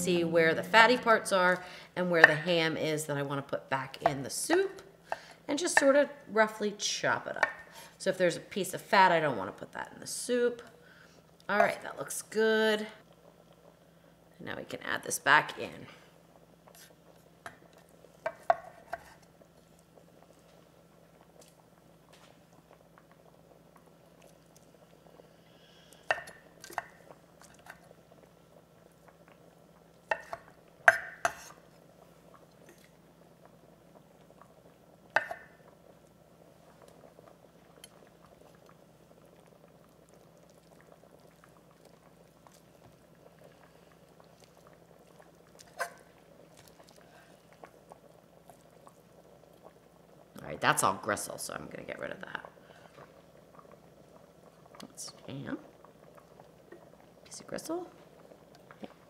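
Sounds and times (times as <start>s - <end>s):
faint steady hum: 0.0s - 59.0s
low hiss: 0.0s - 59.0s.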